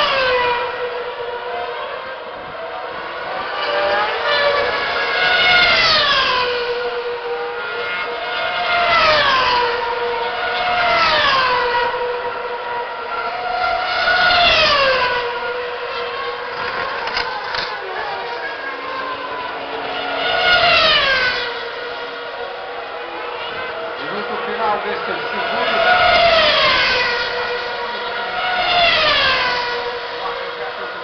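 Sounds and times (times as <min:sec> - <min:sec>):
cars passing by: 0:00.0 - 0:31.0
racing car engines at high revs: 0:00.0 - 0:31.0.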